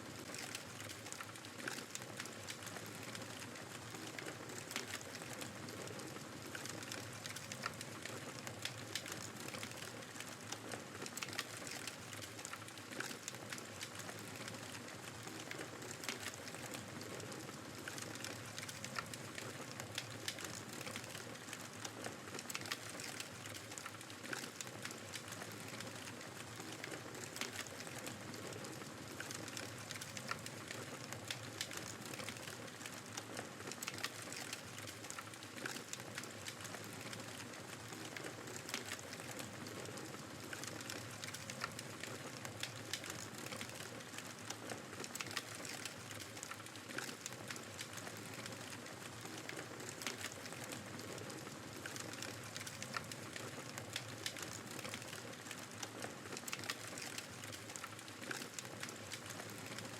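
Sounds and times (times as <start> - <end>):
fireplace crackling: 0.1 - 59.9.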